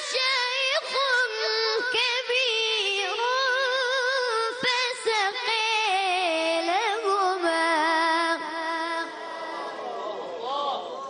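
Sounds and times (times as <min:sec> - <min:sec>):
child chanting recitation: 0:00.0 - 0:09.9.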